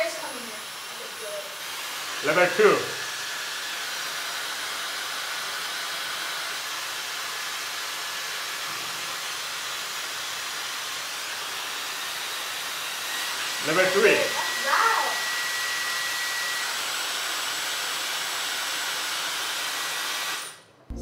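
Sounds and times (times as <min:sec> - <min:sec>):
hair dryer blowing air: 0:00.0 - 0:20.6.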